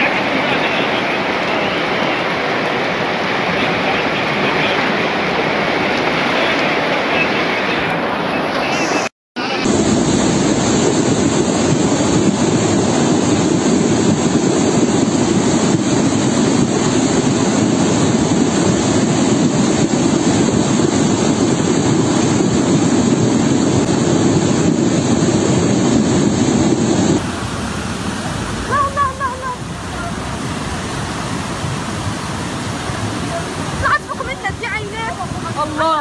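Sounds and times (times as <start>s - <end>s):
flood torrent rushing: 0.0s - 36.0s.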